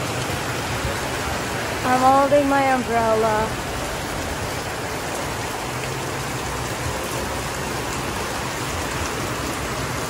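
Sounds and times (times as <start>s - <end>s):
rain drumming on umbrella: 0.0s - 10.0s
rain splashing on wet street: 0.0s - 10.0s.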